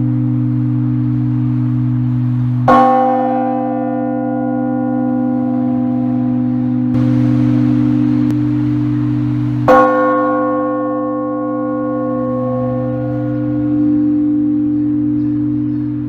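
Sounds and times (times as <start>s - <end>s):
deep hum of large bell: 0.0s - 16.0s.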